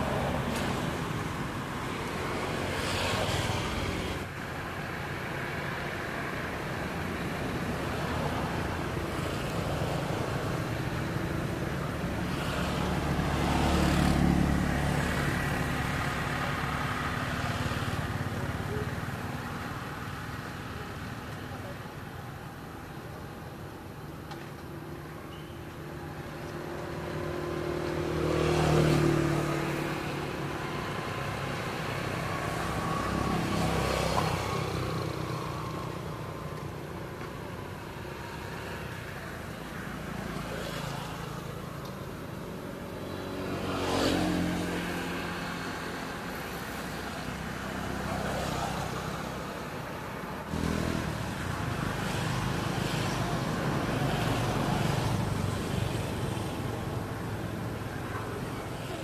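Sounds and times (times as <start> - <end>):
motor vehicles passing: 0.0 - 59.0.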